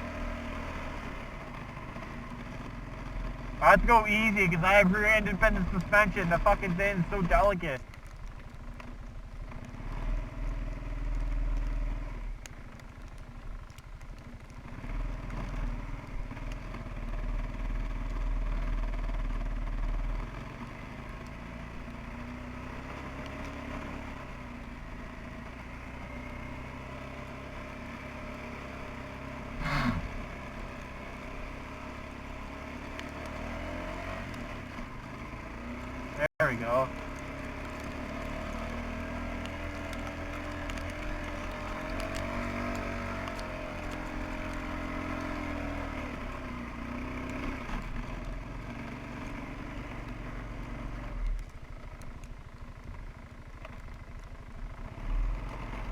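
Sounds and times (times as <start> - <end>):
atv engine in snow: 0.0 - 55.9.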